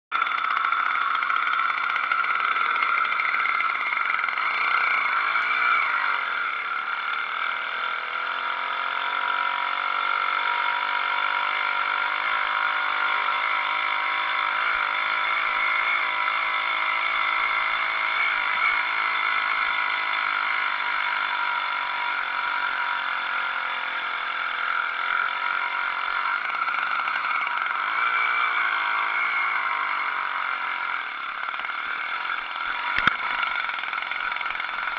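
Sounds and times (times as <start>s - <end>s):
two-stroke engine running: 0.1s - 34.9s.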